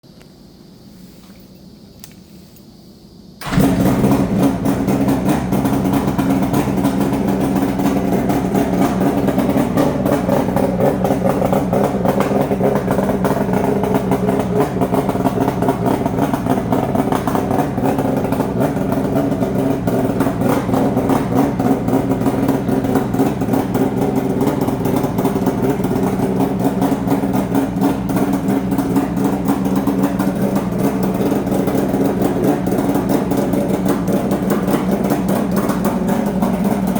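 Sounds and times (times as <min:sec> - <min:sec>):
motorcycle engine starting and idling: 0:03.4 - 0:36.9.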